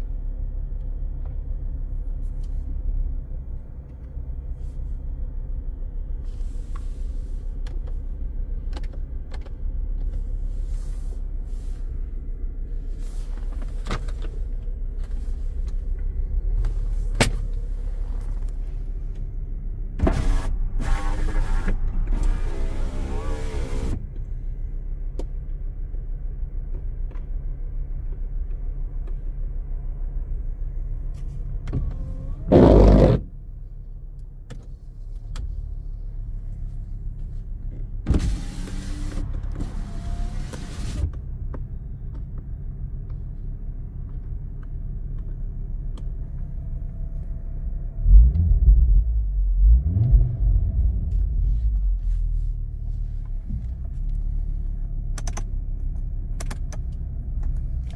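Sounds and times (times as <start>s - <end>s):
car engine idling and revving: 0.0s - 57.9s.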